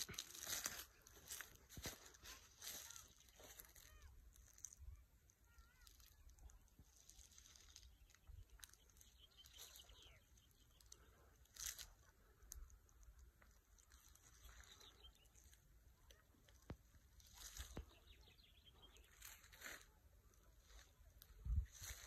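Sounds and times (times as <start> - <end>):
faint crackles: 0.0 - 22.0.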